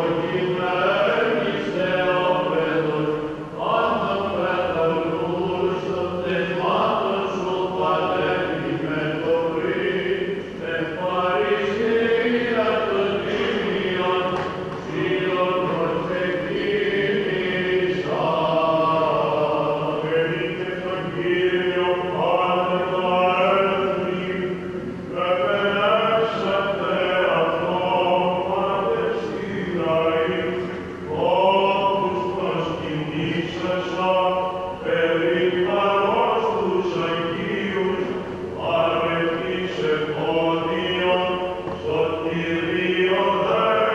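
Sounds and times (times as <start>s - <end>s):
chanters singing a chant: 0.0s - 43.9s.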